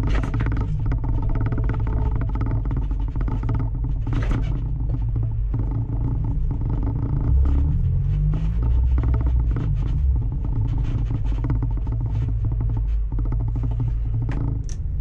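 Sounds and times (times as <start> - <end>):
car engine exhaust note: 0.0 - 15.0.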